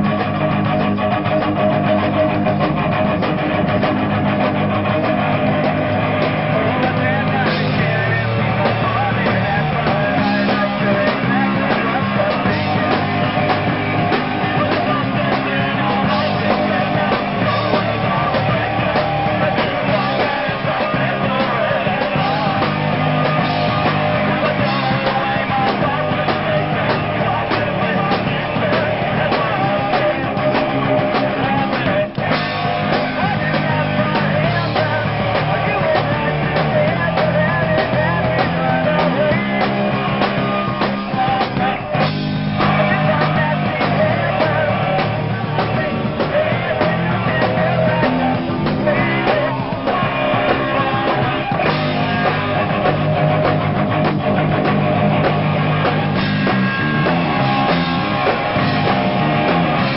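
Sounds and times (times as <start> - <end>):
lead vocal singing: 0.0 - 59.9
punk rock band playing: 0.0 - 59.9.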